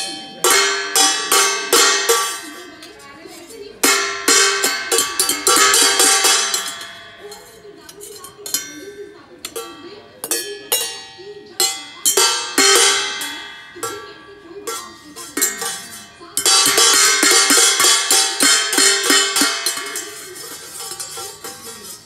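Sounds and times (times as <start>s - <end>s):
metal bowls struck ringing: 0.0s - 2.8s, 3.8s - 22.0s.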